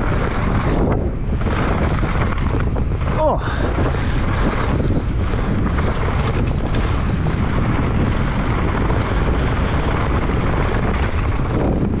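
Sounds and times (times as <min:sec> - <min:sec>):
bike clicks and rattles: 0:00.0 - 0:12.0
tyre noise on dirt: 0:00.0 - 0:12.0
wind rushing over microphone: 0:00.0 - 0:12.0.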